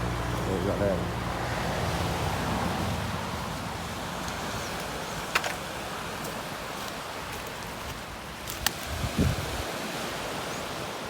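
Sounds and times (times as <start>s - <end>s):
sea surf rushing: 0.0s - 11.0s.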